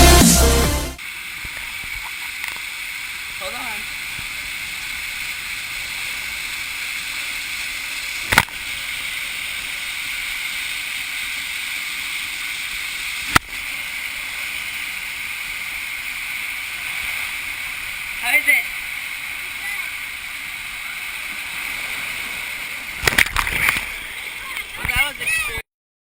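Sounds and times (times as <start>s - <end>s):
water rushing down waterslide: 1.0s - 25.6s.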